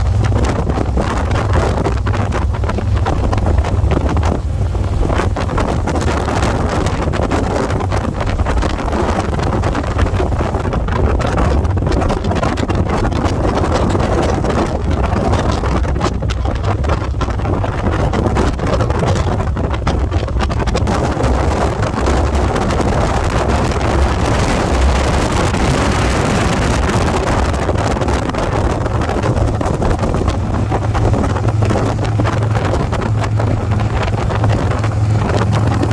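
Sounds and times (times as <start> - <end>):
motorcycle engine running: 0.0 - 35.9
wind noise on microphone: 0.0 - 35.9.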